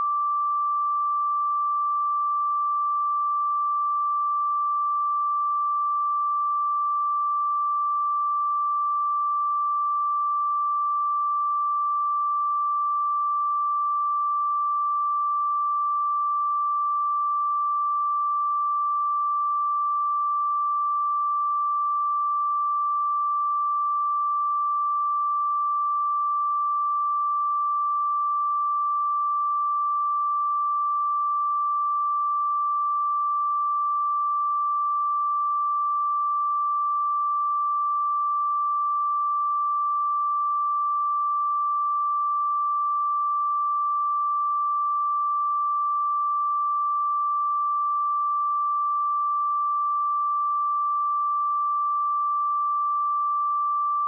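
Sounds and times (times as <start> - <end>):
sine-wave test tone: 0.0 - 54.0.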